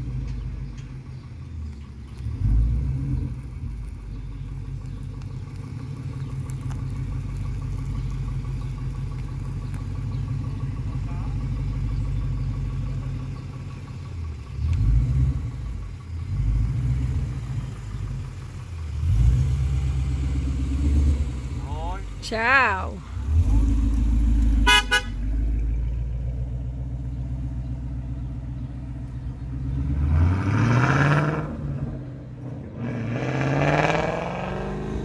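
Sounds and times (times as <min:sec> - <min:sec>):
car engine at low revs: 0:00.0 - 0:35.0.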